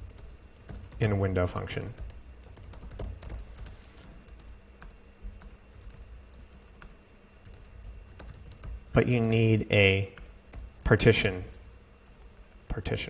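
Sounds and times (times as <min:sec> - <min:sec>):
computer keyboard typing: 0:00.0 - 0:09.5, 0:10.2 - 0:13.0.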